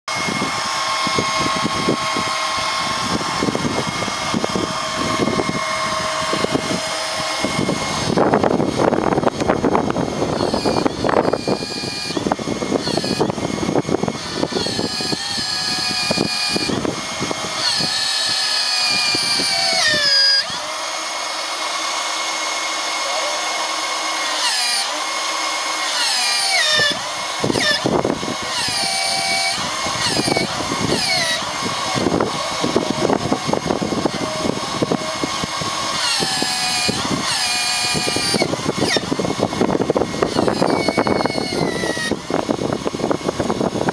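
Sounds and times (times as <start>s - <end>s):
wind buffeting microphone: 0.1s - 20.6s, 26.8s - 43.9s
excavator mechanical whine: 0.1s - 43.9s.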